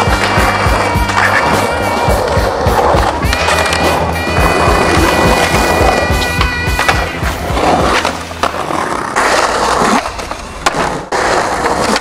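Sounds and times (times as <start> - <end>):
skateboard clacks: 0.0 - 12.0
skateboard wheels rolling on concrete: 0.0 - 12.0.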